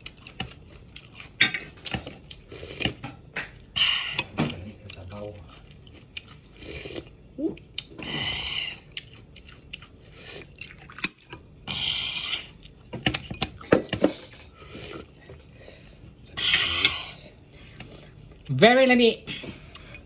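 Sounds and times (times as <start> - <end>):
person chewing vegetables: 0.0 - 18.5.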